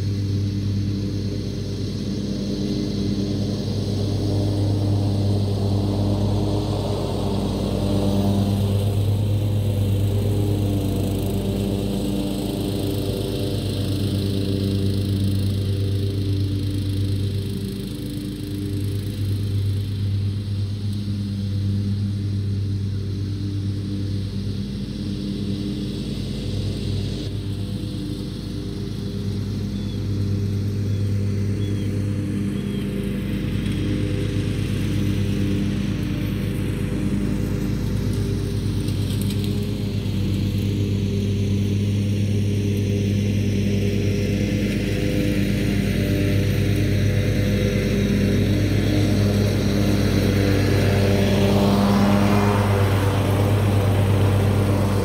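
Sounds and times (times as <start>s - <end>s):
riding mower engine hum: 0.0s - 55.0s.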